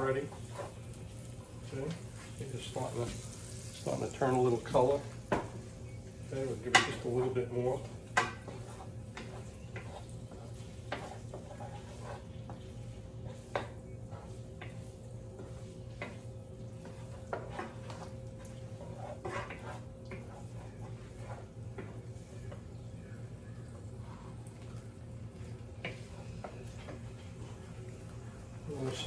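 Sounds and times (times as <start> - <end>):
food sauteing in butter: 0.0 - 29.0
steady low hum: 0.0 - 29.0.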